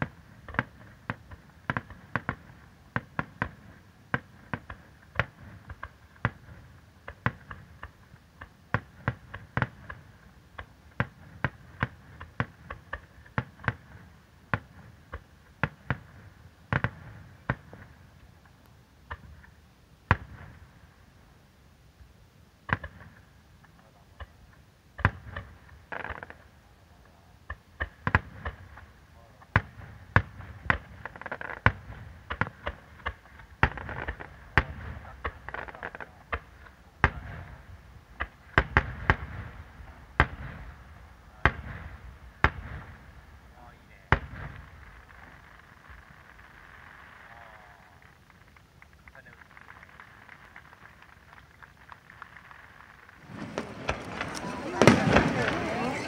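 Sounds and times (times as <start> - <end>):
fireworks bursting: 0.0 - 21.4, 22.0 - 56.0.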